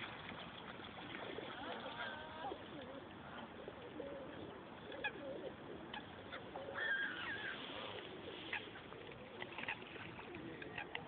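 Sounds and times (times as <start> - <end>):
pigeons cooing: 1.2 - 11.0.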